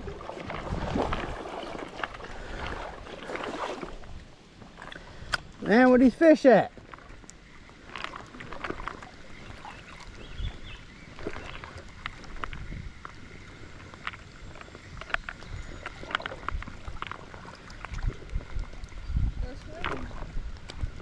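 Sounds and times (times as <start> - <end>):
water sloshing and splashing: 0.0 - 21.0.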